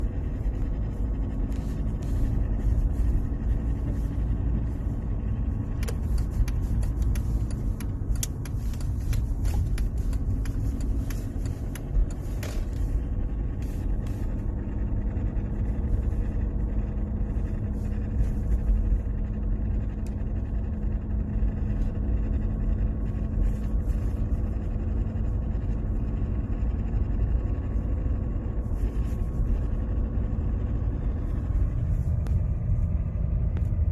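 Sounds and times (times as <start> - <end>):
car engine low rumble: 0.0 - 33.9
whining hum: 0.0 - 33.9.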